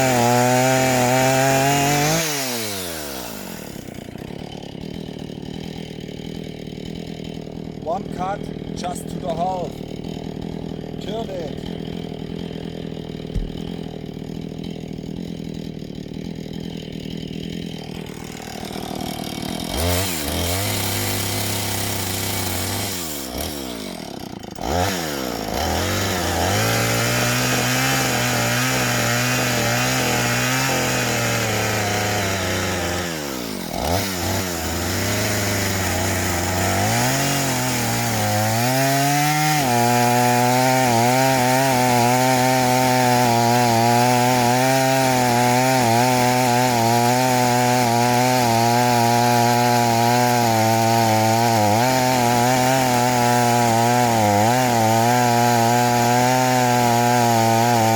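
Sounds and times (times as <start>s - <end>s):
chainsaw cutting into log: 0.0s - 57.9s
chainsaw idling and revving: 0.0s - 57.9s.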